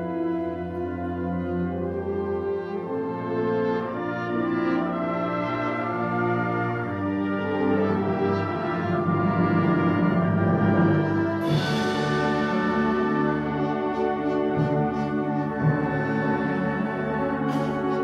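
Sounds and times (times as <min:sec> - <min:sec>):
wind band playing slow chords: 0:00.0 - 0:18.0.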